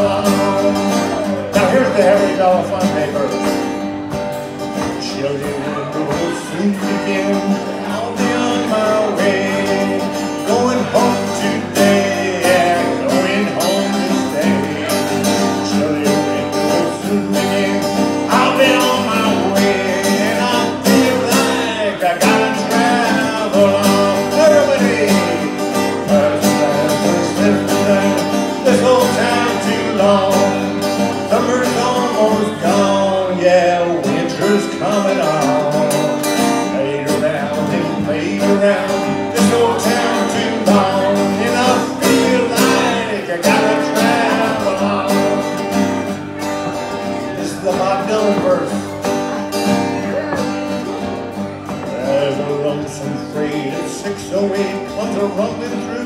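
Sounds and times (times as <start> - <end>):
acoustic guitar strumming: 0.0 - 56.0
person singing: 4.8 - 45.7, 49.8 - 50.8, 51.7 - 56.0.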